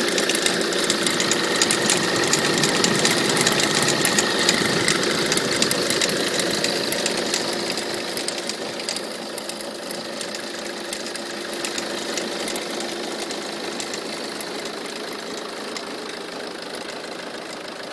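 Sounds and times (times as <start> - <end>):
diesel engine idling with clatter: 0.0 - 17.9.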